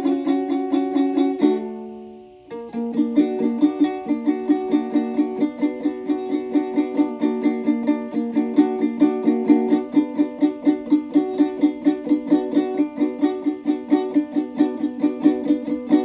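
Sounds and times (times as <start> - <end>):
plucked string instrument notes: 0.0 - 16.0.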